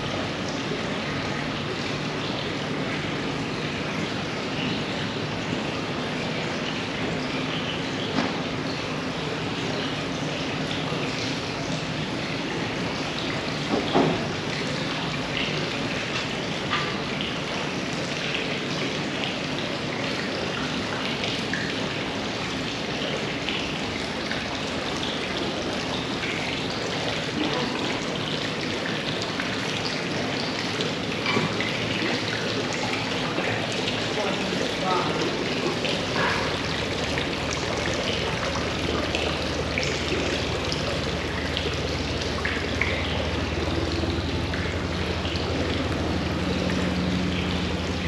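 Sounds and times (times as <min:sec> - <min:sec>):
running water splashing: 0:00.0 - 0:48.0.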